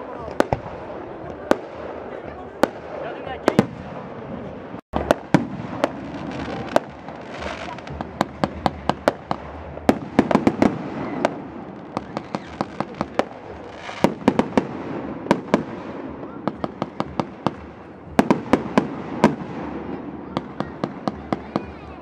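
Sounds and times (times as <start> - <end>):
firework bangs: 0.0 - 21.9.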